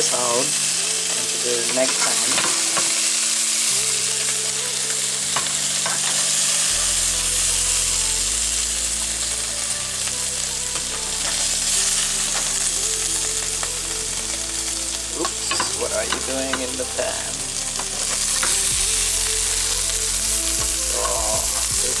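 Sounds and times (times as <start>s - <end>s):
chicken sizzling in hot oil: 0.0s - 22.0s
utensil stirring and scraping pan: 0.0s - 22.0s.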